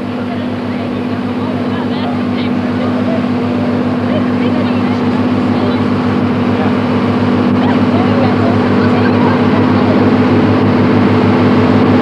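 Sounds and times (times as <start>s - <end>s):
boat engine droning: 0.0s - 12.0s
water wash: 0.0s - 12.0s.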